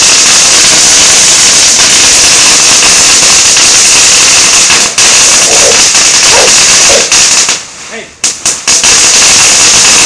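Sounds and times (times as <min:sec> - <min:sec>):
firecrackers crackling: 0:00.0 - 0:10.0.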